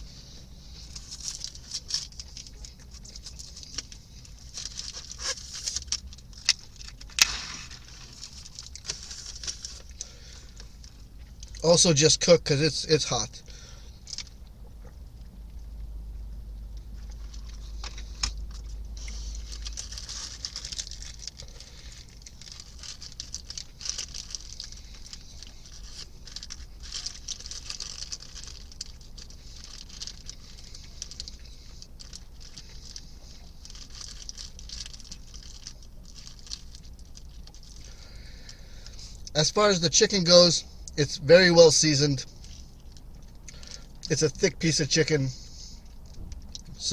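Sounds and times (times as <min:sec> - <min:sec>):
crunchy chewing: 0:00.0 - 0:11.6, 0:13.4 - 0:39.4
low steady hum: 0:00.0 - 0:46.9.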